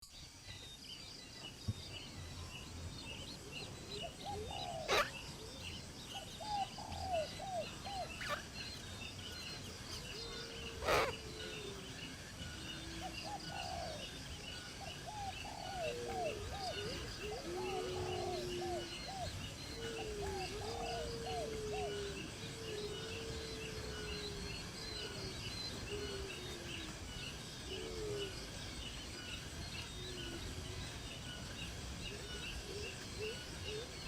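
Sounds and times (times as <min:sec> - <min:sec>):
birds calling: 0:01.4 - 0:34.0.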